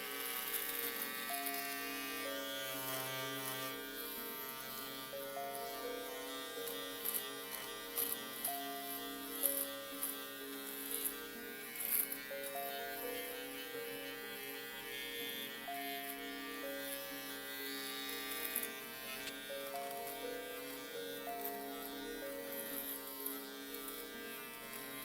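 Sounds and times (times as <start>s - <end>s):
electric shaver buzzing: 0.0s - 25.0s
shaver cutting crackles: 0.0s - 25.0s.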